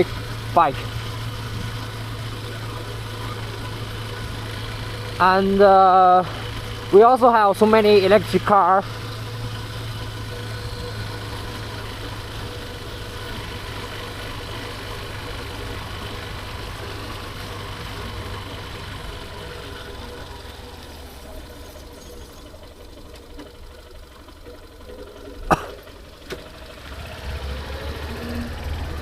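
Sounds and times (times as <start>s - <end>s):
road noise: 0.0s - 29.0s
vehicle engine hum: 0.0s - 29.0s.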